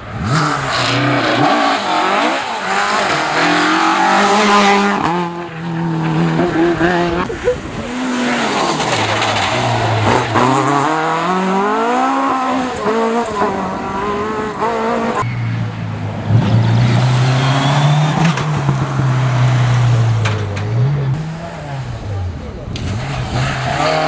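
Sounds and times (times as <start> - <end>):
rally car engine passing: 0.0 - 24.0.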